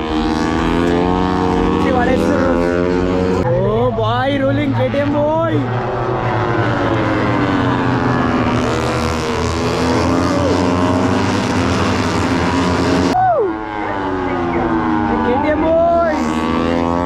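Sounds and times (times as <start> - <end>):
motorcycle engines revving: 0.0 - 17.0
motorcycle passing by: 0.0 - 17.0.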